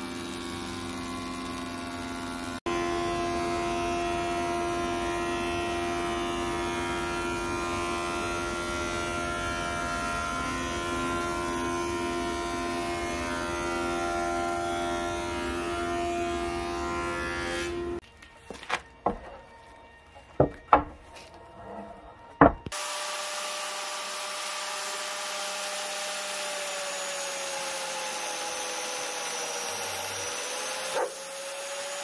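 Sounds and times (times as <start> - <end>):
thickness planer cutting boards: 0.0 - 18.0, 21.5 - 32.0.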